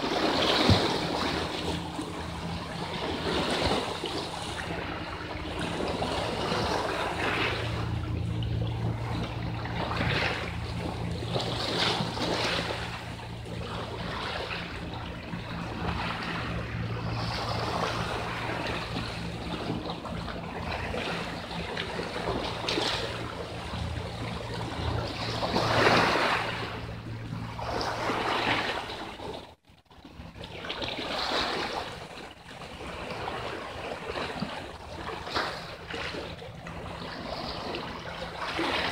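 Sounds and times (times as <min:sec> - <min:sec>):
waves splashing against rocks: 0:00.0 - 0:29.6, 0:30.3 - 0:38.9
steady low hum: 0:00.0 - 0:38.9.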